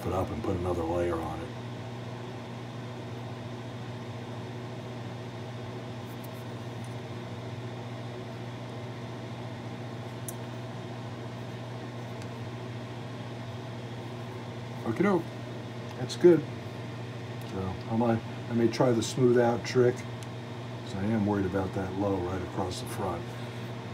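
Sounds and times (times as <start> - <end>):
machine hum: 0.0 - 23.9.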